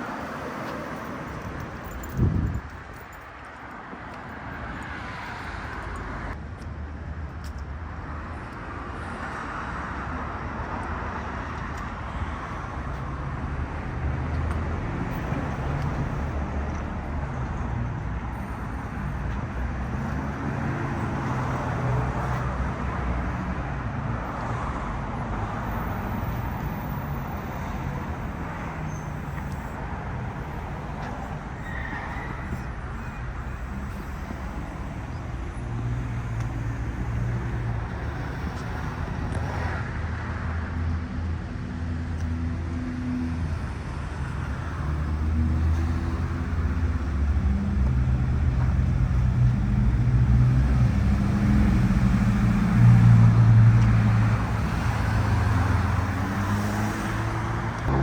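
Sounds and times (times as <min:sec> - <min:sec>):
cars going by: 0:00.0 - 0:58.0.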